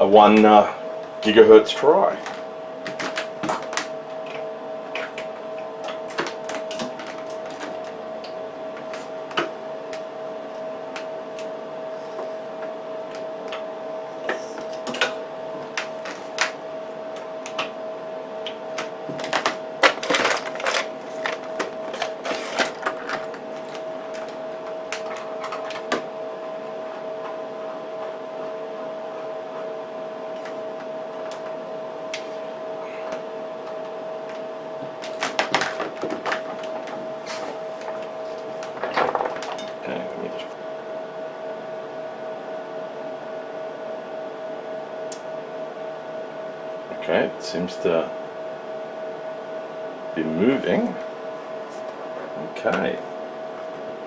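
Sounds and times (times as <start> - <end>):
two-note electrical hum: 0.0 - 54.0.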